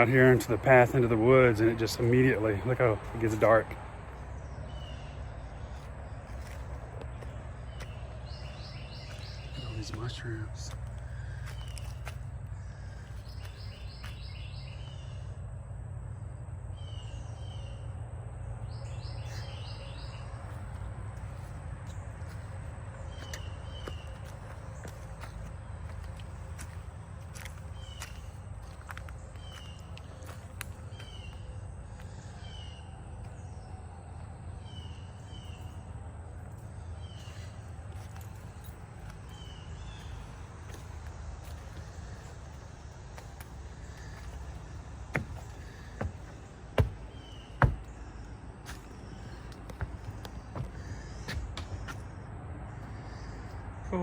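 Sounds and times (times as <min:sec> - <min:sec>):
birds singing: 0:00.0 - 0:54.0.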